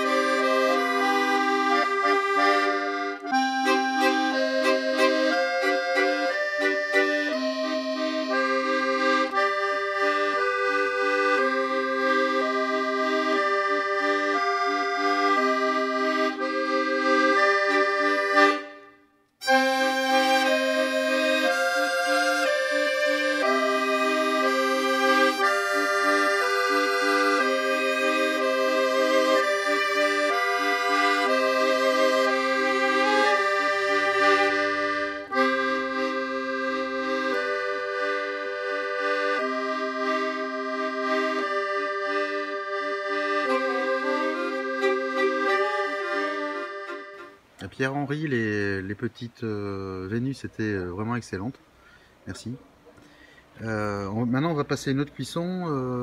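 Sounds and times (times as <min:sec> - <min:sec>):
accordion music: 0:00.0 - 0:56.0.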